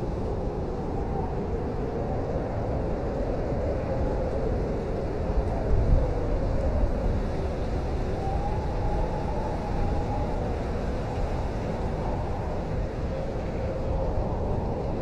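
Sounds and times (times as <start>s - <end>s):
blizzard wind blowing: 0.0s - 15.0s
howling wind whistle: 0.0s - 15.0s.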